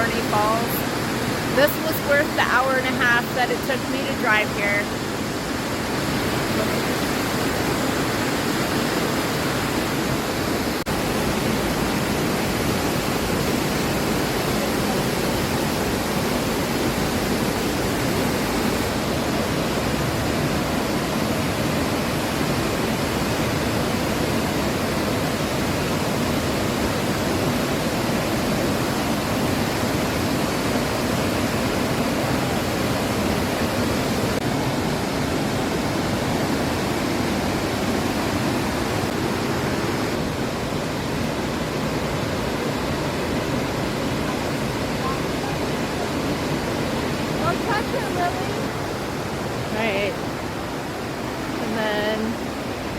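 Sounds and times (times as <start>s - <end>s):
waterfall roaring: 0.0s - 52.9s.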